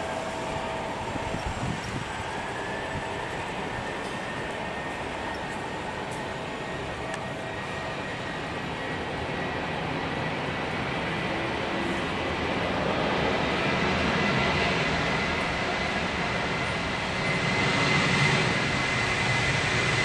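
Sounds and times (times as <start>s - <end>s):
jet airliner taxiing past: 0.0s - 20.0s
jet engines taxiing: 0.0s - 20.0s.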